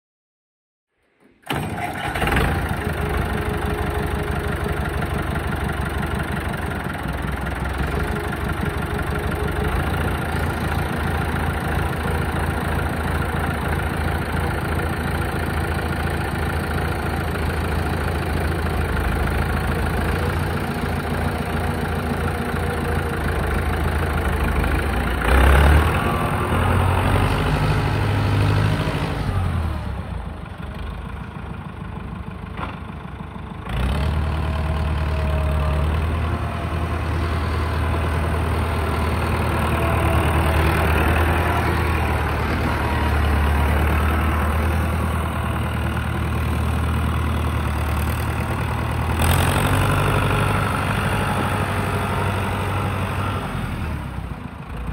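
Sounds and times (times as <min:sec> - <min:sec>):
tractor engine idling and revving: 0:01.2 - 0:54.9.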